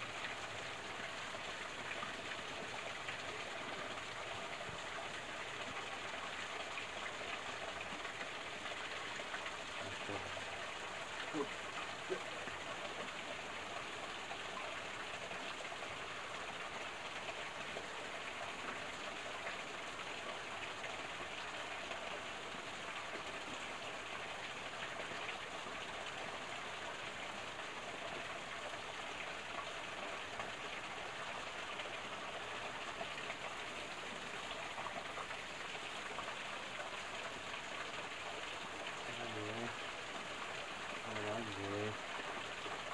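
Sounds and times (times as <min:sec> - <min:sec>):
small stream flowing: 0:00.0 - 0:42.9.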